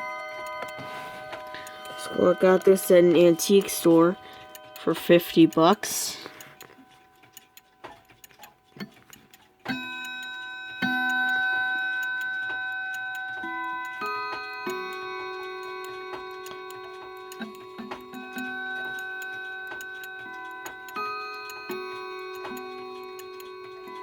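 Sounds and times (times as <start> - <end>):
clock chime notes: 0.0 - 8.8, 9.7 - 24.0
clock clicks: 0.0 - 24.0.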